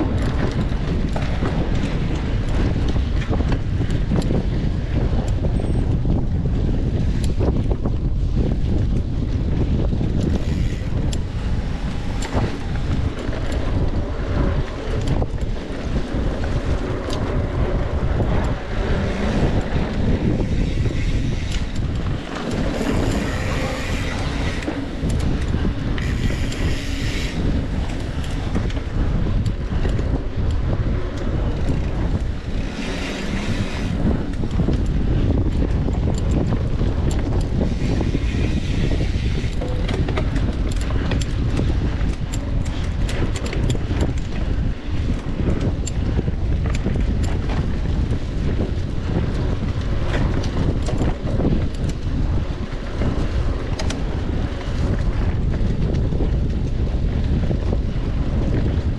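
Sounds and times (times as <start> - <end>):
bike clicking and rattling: 0.0 - 58.9
wind buffeting microphone: 0.0 - 58.9.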